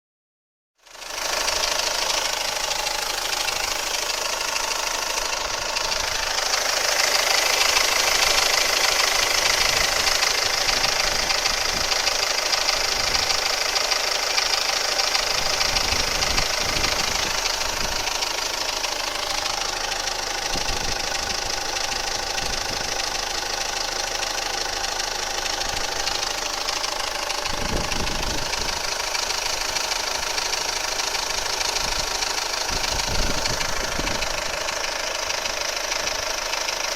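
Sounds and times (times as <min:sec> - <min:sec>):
engine idling: 0:00.8 - 0:36.9
extraneous engine noise: 0:00.8 - 0:36.9.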